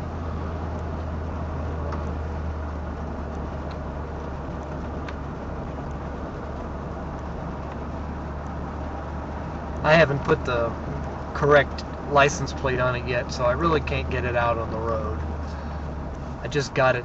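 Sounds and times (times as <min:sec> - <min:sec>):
car engine running: 0:00.0 - 0:17.0
road noise: 0:00.0 - 0:17.0.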